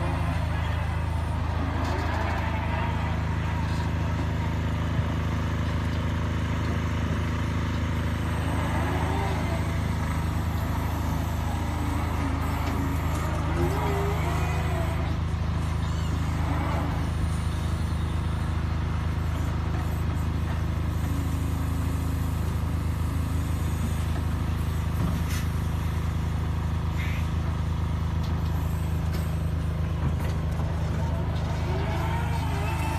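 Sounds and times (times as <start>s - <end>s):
electric loader humming: 0.0s - 32.9s.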